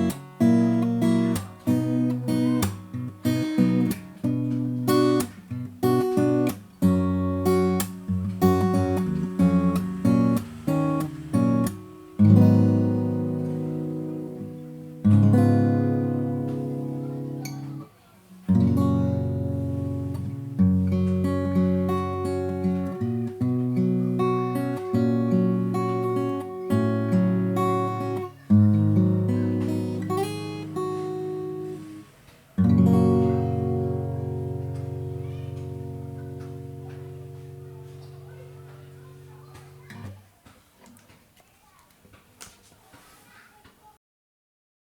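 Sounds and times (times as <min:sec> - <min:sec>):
acoustic guitar playing: 0:00.0 - 0:40.4.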